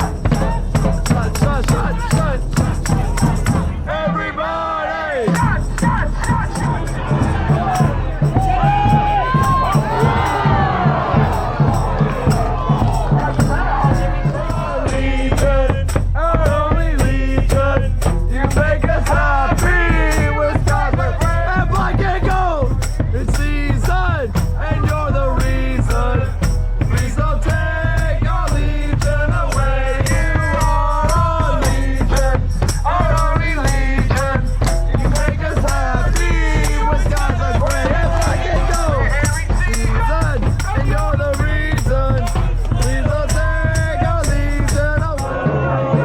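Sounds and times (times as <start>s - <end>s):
shaker-like percussion: 0.0s - 3.8s, 5.3s - 45.4s
heavy bass: 0.0s - 4.5s, 5.2s - 46.0s
song with singing voice: 0.0s - 46.0s
sung melody over beat: 5.3s - 45.4s.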